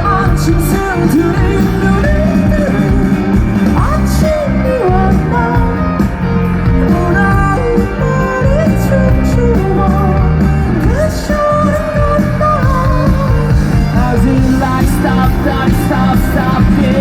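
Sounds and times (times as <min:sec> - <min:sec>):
live rock band: 0:00.0 - 0:17.0
person singing: 0:00.0 - 0:17.0.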